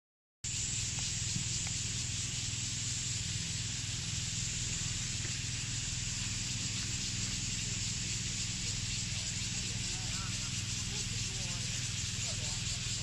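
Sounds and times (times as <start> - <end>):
steady outdoor hiss: 0.4 - 13.0
low even hum: 0.5 - 13.0.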